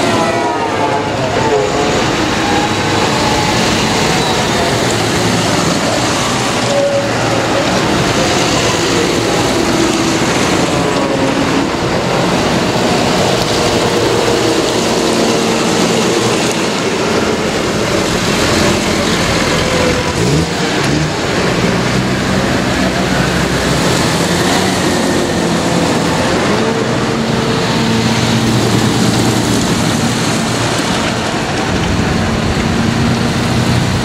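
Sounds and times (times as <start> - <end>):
tractor diesel engines droning: 0.0 - 34.0.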